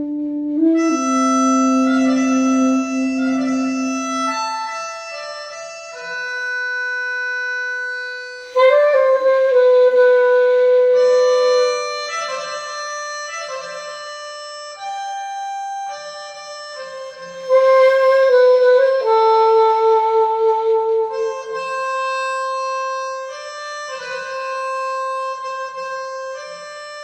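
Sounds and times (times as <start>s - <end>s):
alto saxophone playing: 0.0s - 26.8s
melodica music: 0.0s - 27.0s.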